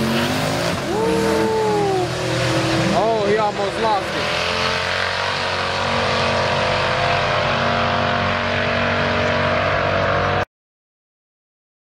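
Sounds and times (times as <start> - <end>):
car engine running: 0.0 - 10.4.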